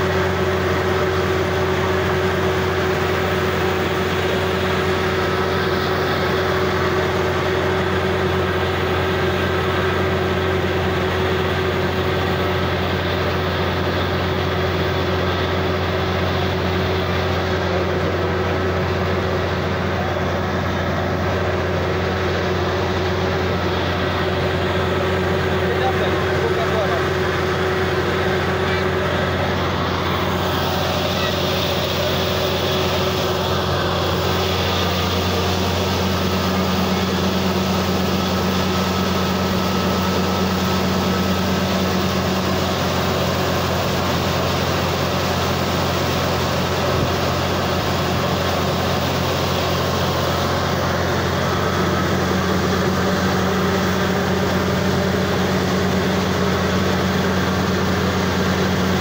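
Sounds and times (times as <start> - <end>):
drilling rig engine drone: 0.0 - 59.0.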